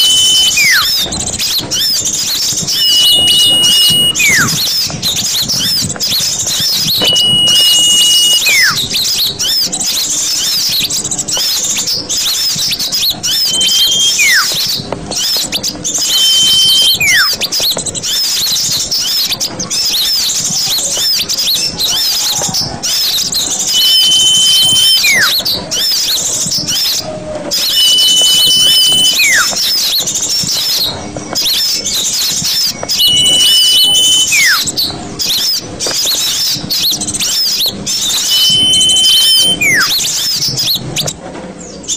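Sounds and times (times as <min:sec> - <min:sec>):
clear bird whistles: 0:00.0 - 0:41.2
small birds twittering: 0:00.0 - 0:41.9.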